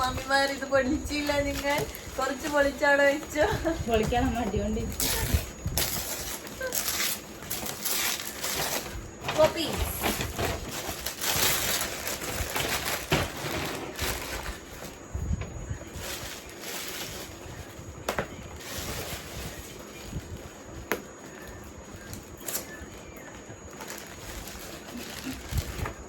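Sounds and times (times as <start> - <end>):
packaging rustling and crinkling: 0.0 - 26.0.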